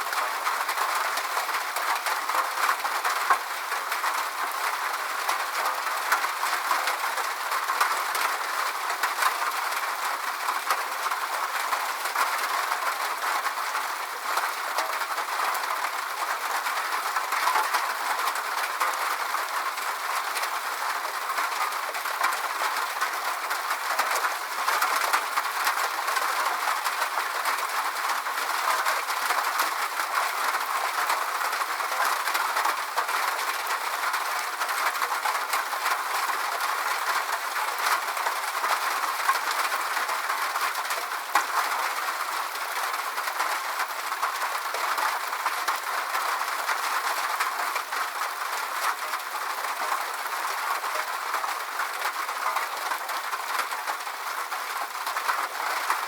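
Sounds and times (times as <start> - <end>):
steady rainfall pattering: 0.0 - 56.0.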